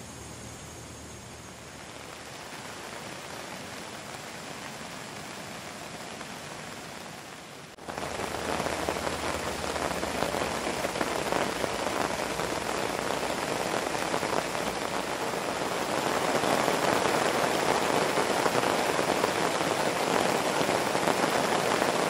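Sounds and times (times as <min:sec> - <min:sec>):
rain hiss: 0:00.0 - 0:22.0
rain pattering on canvas: 0:01.5 - 0:22.0.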